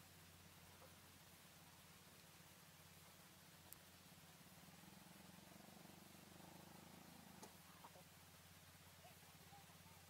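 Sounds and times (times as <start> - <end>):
faint low hum: 0.0 - 10.0
flat hiss: 0.0 - 10.0.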